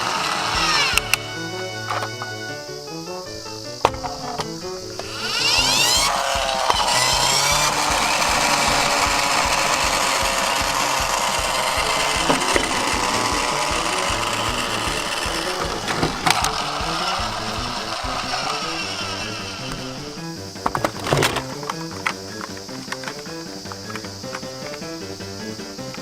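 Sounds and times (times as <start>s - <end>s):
toy wheels rattling on wood: 0.0s - 2.5s, 3.4s - 26.0s
background music with steady beat: 0.0s - 26.0s.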